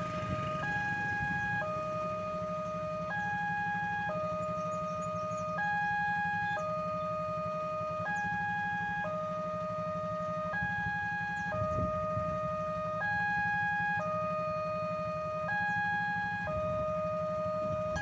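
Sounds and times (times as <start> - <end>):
low engine rumble: 0.0 - 18.0
two-tone level crossing alarm: 0.0 - 18.0.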